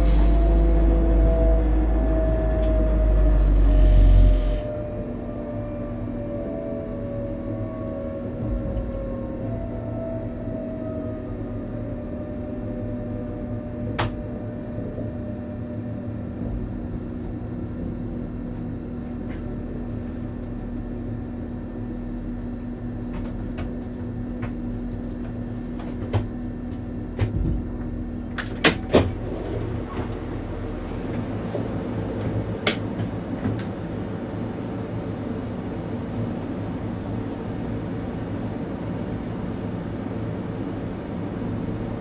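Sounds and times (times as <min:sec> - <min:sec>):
electrical hum: 0:00.0 - 0:42.0
train rolling rumble: 0:00.0 - 0:42.0.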